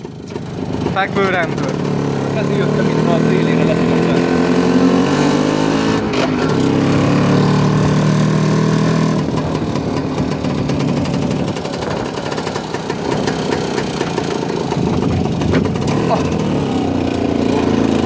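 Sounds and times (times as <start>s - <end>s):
two-stroke motorcycle engine running: 0.0s - 18.0s.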